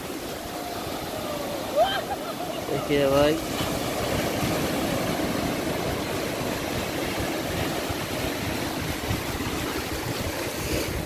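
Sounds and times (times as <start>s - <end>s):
sea waves breaking in surf: 0.0s - 11.0s.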